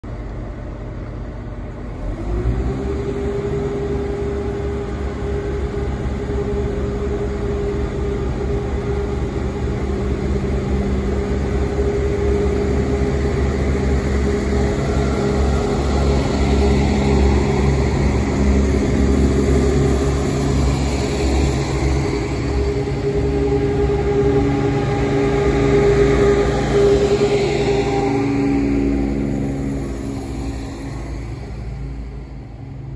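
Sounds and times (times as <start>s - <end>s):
diesel train engines revving: 0.1s - 32.9s.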